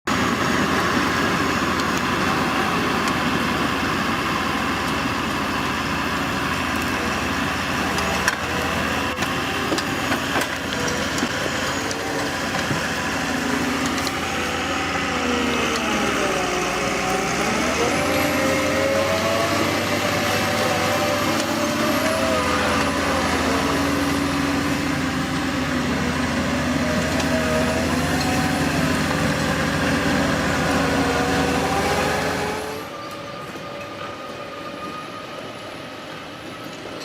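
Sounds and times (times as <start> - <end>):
heavy machinery running: 0.1 - 37.0.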